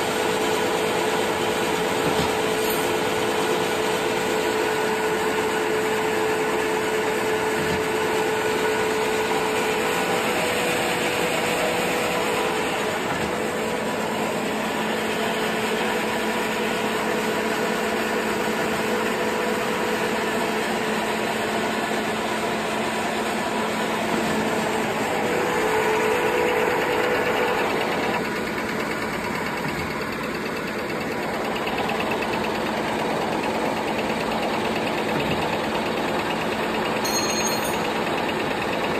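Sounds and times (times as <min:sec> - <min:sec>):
paper machine running with hum: 0:00.0 - 0:38.9.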